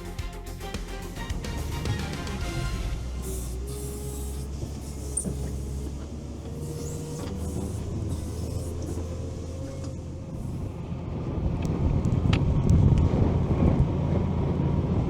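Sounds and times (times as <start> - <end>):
vehicle engine droning: 1.1 - 15.0.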